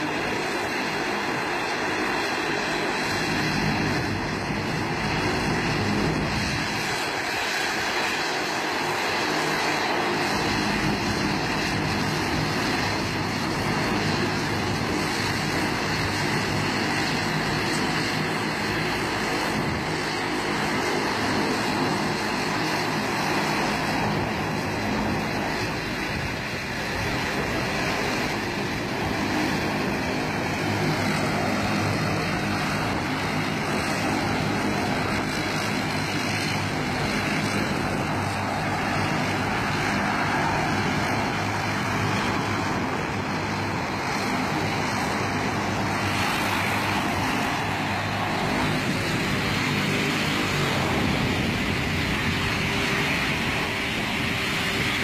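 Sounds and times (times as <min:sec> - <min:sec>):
turboprop airliner engines droning: 0:00.0 - 0:55.0.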